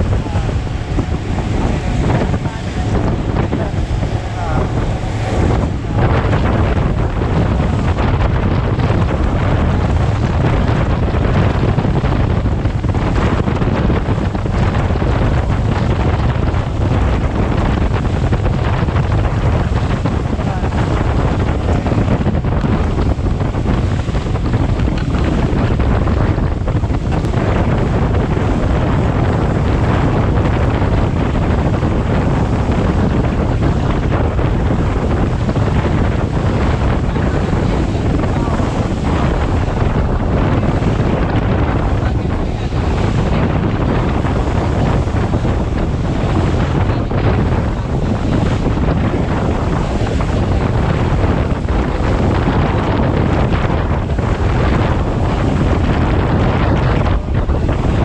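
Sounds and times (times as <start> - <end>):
low engine rumble: 0.0 - 58.0
rushing water: 0.0 - 58.0
wind buffeting microphone: 0.0 - 58.0.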